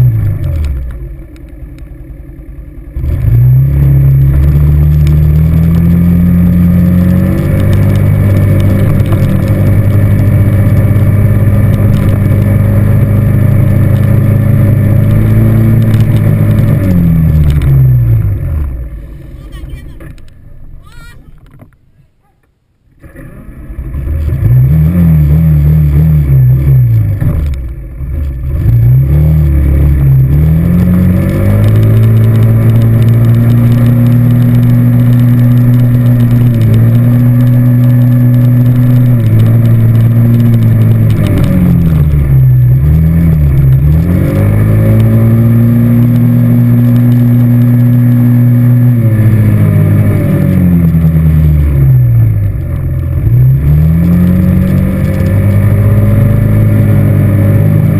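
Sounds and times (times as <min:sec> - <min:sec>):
atv engine accelerating and cruising: 0:00.0 - 0:57.9.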